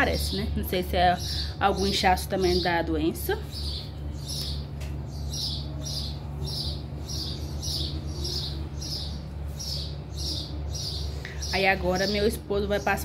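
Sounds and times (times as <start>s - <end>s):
steady low hum: 0.0s - 13.0s
bird chirping: 1.2s - 13.0s.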